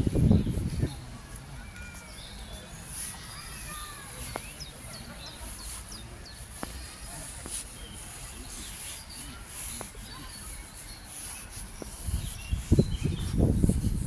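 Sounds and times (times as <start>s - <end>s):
low outdoor background noise: 0.0s - 14.0s
small birds chirping: 0.0s - 14.0s.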